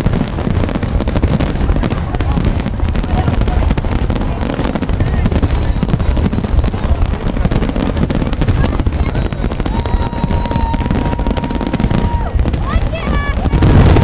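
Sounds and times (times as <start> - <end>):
deep rumble: 0.0 - 14.0
fireworks bangs and crackles: 0.0 - 14.0.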